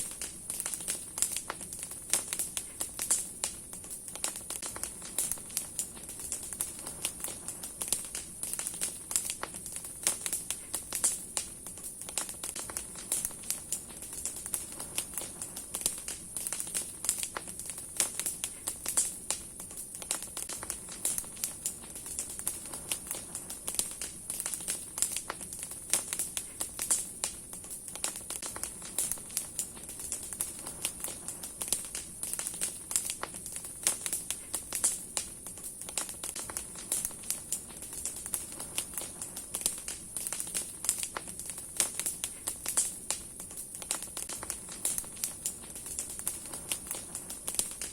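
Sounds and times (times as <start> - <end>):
bonfire crackling and popping: 0.0 - 47.9.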